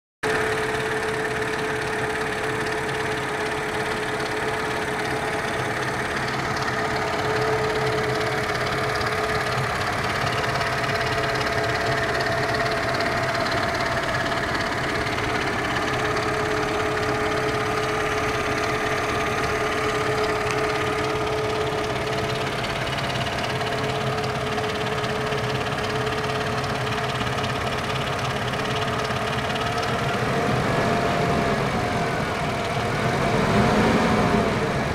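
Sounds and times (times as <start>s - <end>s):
car engine idling: 0.3s - 34.9s.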